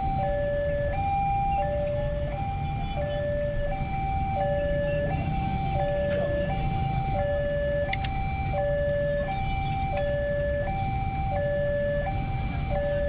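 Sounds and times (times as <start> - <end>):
low traffic rumble: 0.0 - 13.0
two-tone crossing alarm: 0.0 - 13.0.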